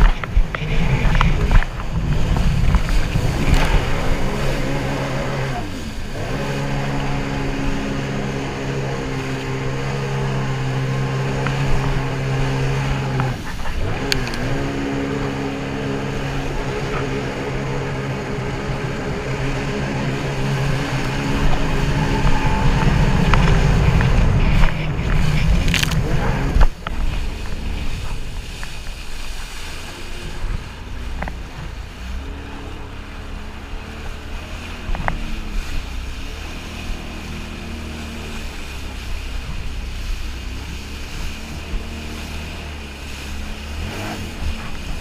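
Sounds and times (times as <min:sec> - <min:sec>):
personal watercraft engine drone: 0:00.0 - 0:45.0
rushing wind: 0:00.0 - 0:45.0.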